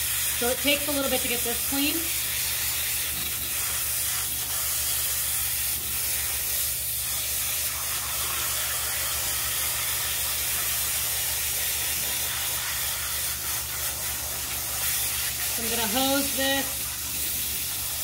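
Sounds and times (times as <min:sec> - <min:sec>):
hose spray hissing on sponge: 0:00.0 - 0:18.0.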